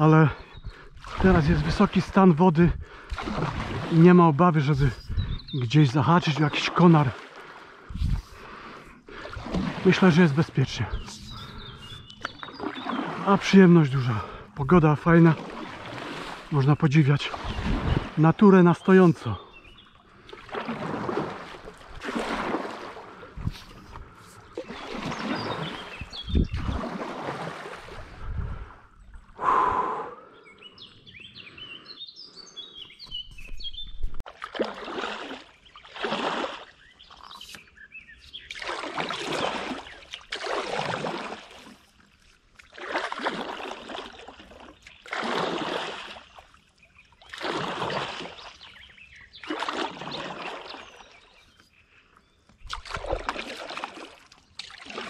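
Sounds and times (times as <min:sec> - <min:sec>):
birds chirping: 0:00.0 - 0:20.7, 0:22.9 - 0:27.0, 0:27.9 - 0:34.2, 0:35.2 - 0:40.6, 0:44.1 - 0:45.2, 0:46.0 - 0:53.1
paddle splashing through water: 0:00.7 - 0:28.8, 0:33.0 - 0:51.6, 0:52.5 - 0:55.0.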